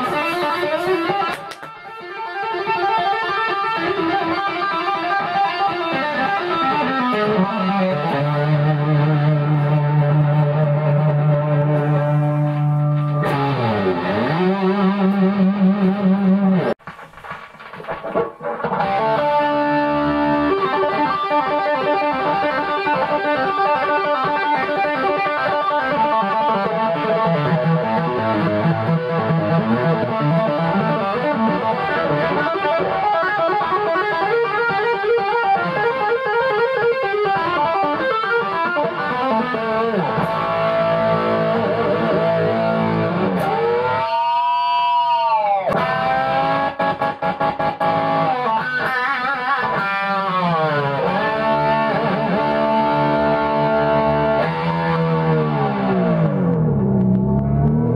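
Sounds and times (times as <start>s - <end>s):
distorted electric guitar lead: 0.0s - 57.9s.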